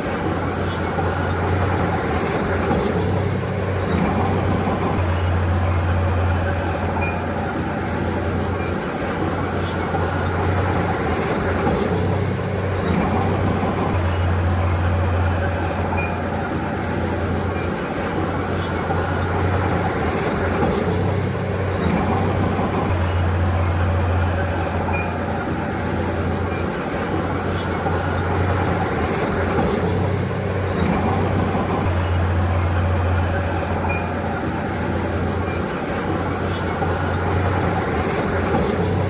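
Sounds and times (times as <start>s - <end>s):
bulldozer diesel engine drone: 0.0s - 39.0s
small clicks and squeaks: 0.0s - 39.0s.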